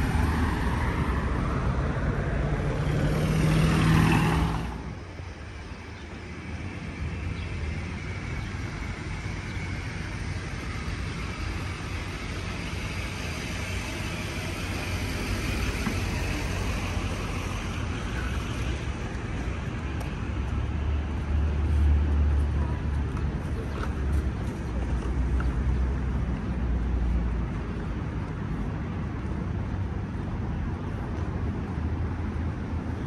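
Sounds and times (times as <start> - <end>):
hum of passing vehicles: 0.0 - 33.0.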